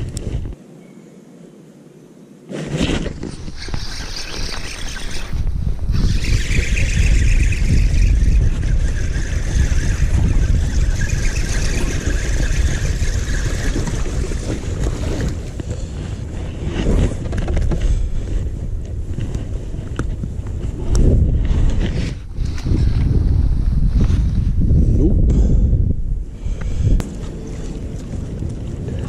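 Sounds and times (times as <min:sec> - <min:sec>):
wind buffeting microphone: 0:00.0 - 0:00.6, 0:02.7 - 0:29.0.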